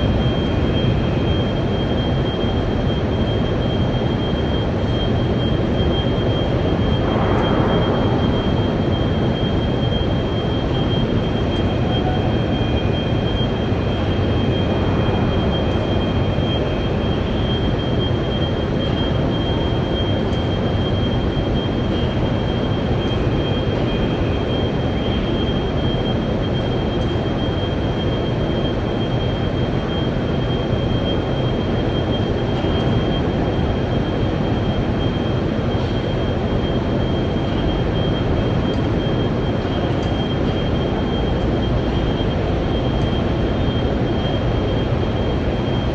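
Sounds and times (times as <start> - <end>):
high steady whine: 0.0 - 45.9
industrial furnace roar: 0.0 - 45.9.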